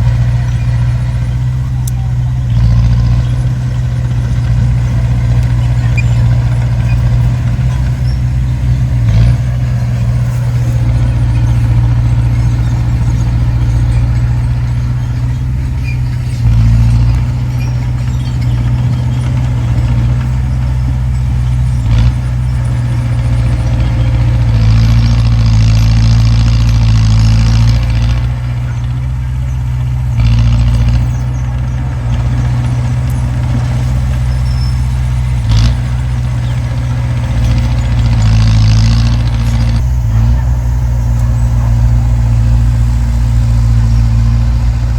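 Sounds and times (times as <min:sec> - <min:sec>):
heavy diesel engine drone: 0:00.0 - 0:44.9.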